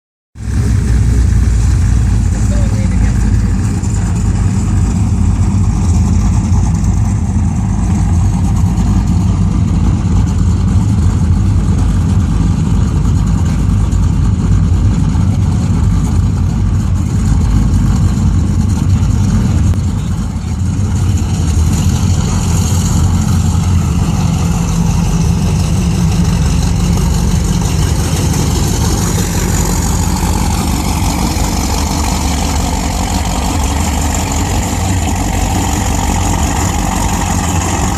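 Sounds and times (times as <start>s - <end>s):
boat engines idling: 0.4s - 37.9s.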